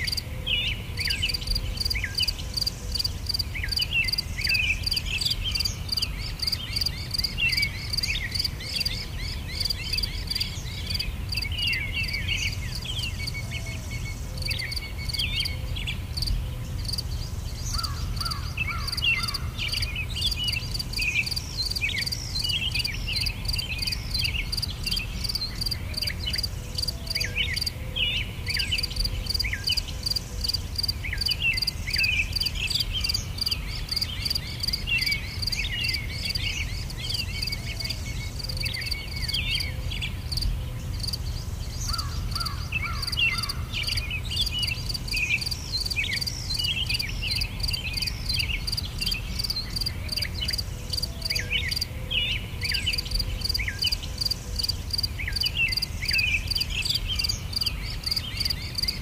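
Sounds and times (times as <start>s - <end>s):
birds chirping: 0.0s - 59.0s
crickets chirping: 0.0s - 59.0s.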